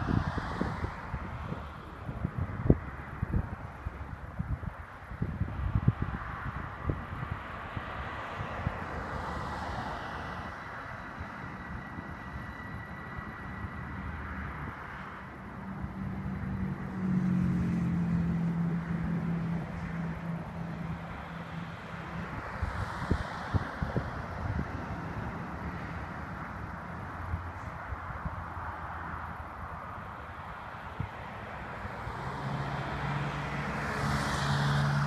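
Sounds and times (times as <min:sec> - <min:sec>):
cars driving along road: 0:00.0 - 0:35.0
car engine hum passing: 0:05.2 - 0:35.0.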